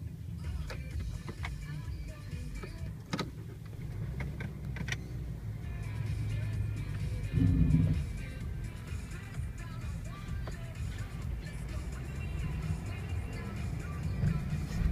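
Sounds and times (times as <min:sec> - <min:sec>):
vehicle engine rumbling: 0:00.0 - 0:14.9.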